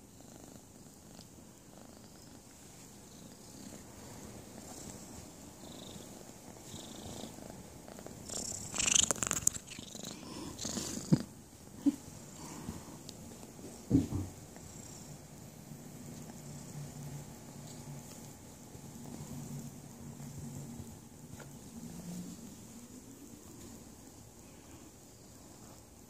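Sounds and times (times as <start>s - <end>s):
kitten purring: 0.0s - 26.0s.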